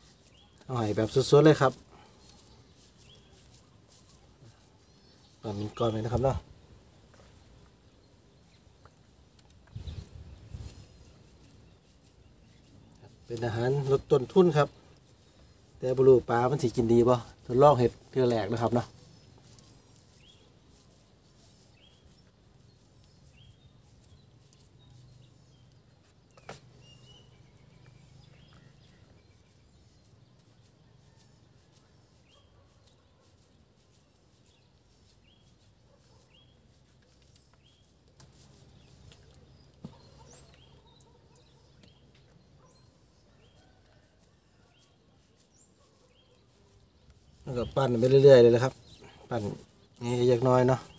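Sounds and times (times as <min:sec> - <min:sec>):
faint bird chirping: 0:00.0 - 0:50.9.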